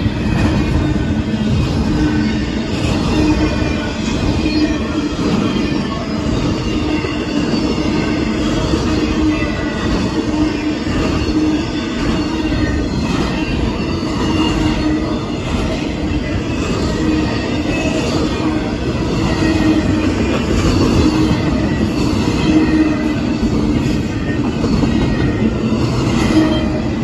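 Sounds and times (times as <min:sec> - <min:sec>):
rumble of wheels on rails: 0:00.0 - 0:27.0
wheel squeal: 0:00.0 - 0:27.0.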